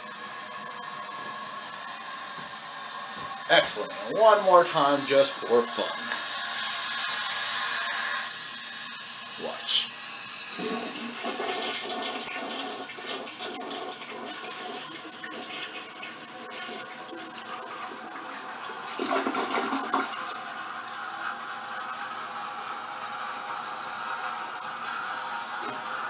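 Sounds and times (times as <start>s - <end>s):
toilet flushing: 0.0s - 26.0s.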